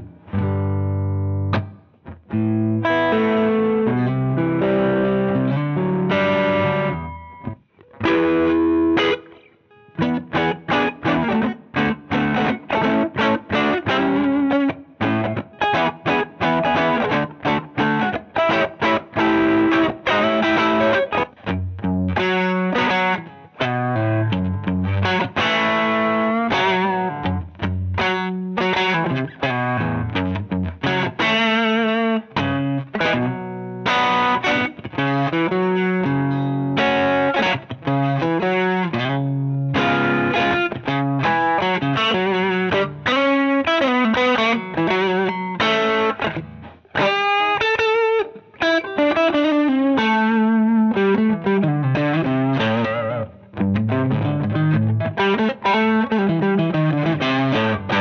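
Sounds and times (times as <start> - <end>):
overdriven electric guitar: 0.0 - 58.0.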